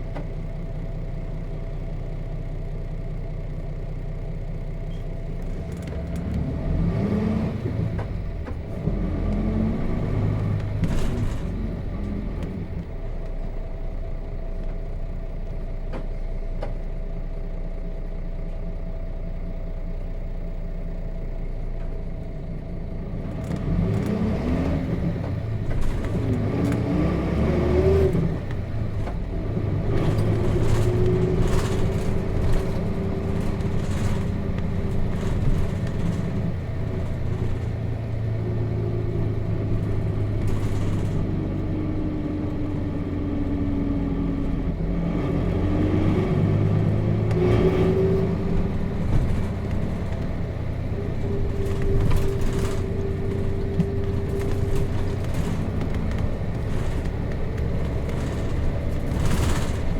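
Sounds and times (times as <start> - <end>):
bus diesel engine: 0.0 - 59.9
road rumble: 0.0 - 59.9.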